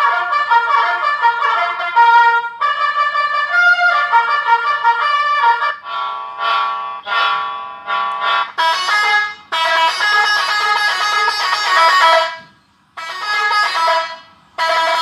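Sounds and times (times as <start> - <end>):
short horn blasts: 0.0 - 15.0
truck horn playing melody: 0.0 - 15.0.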